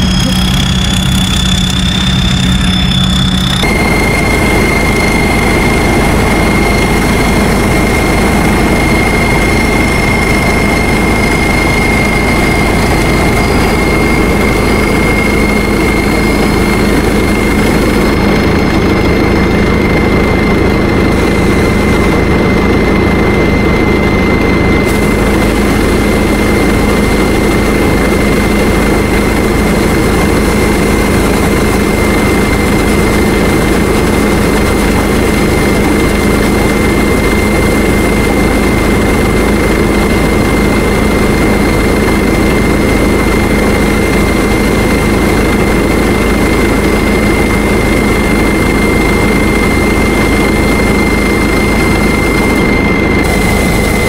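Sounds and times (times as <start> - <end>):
harvester engine running: 0.0 - 54.0.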